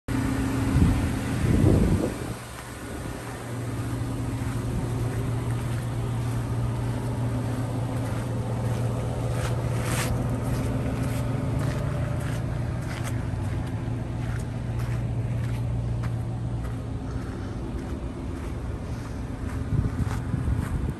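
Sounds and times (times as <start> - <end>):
truck engine idling: 0.1 - 20.9
footsteps on gravel: 2.0 - 20.9.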